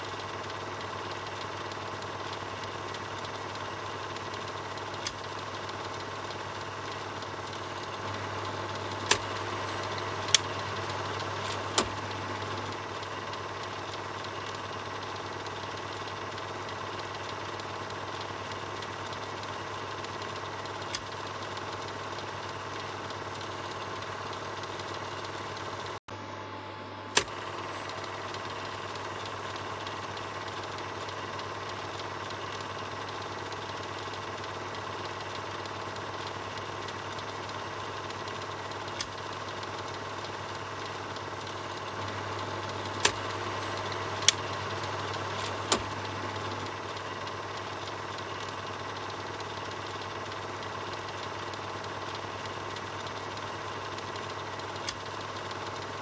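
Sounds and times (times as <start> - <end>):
film projector whirring and rattling: 0.0 - 56.0
sharp clicks: 0.1 - 17.6, 18.2 - 25.7, 27.2 - 55.9.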